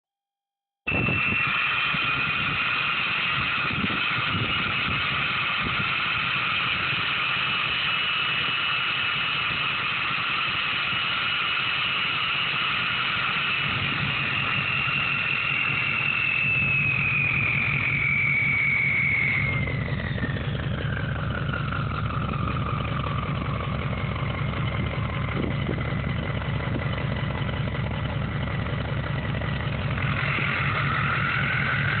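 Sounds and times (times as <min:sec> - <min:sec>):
diesel engine running: 0:00.9 - 0:32.0
turbocharger whistle: 0:00.9 - 0:32.0.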